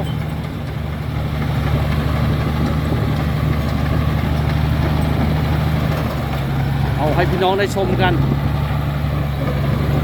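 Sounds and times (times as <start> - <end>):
bulldozer diesel engine running: 0.0 - 10.0.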